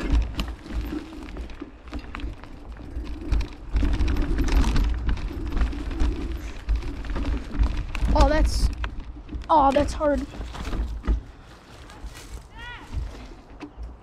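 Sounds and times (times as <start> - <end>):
bike rattling on dirt trail: 0.0 - 14.0.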